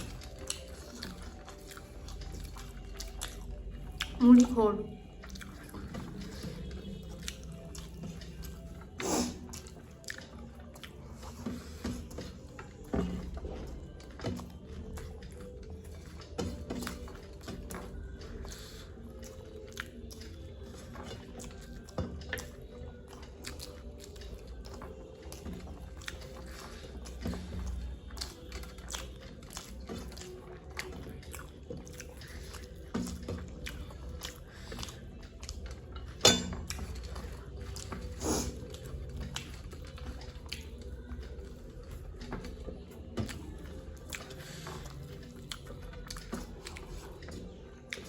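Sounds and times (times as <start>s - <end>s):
people chewing puffed rice: 0.0s - 48.0s.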